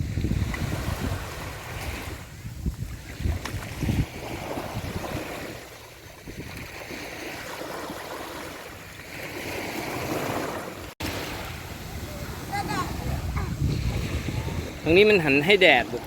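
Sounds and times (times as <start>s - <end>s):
sea waves washing onto beach: 0.0s - 16.0s
wind buffeting microphone: 0.0s - 16.0s.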